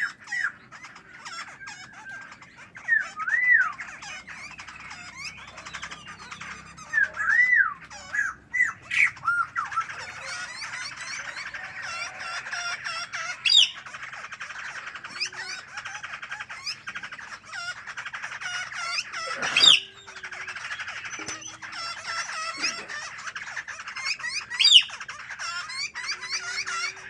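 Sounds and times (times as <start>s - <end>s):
loud sweeping bird call: 0.0s - 27.0s
songbirds singing and chattering: 0.0s - 27.0s.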